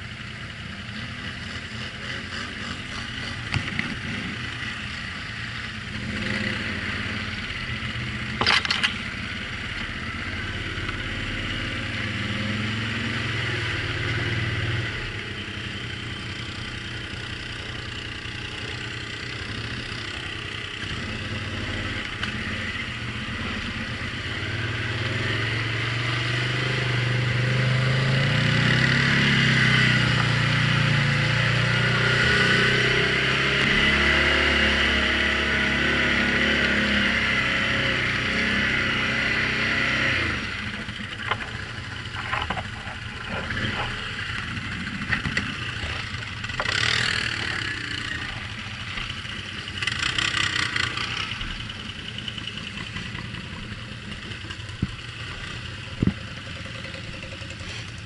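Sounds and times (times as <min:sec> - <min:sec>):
quad bike engine idling: 0:00.0 - 0:26.0, 0:37.1 - 0:58.0.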